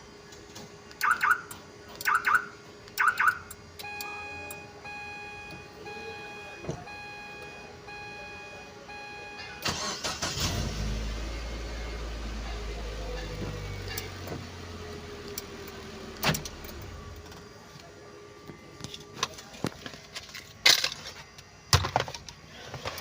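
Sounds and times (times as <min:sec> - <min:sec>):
car engine idling: 0:00.0 - 0:19.6.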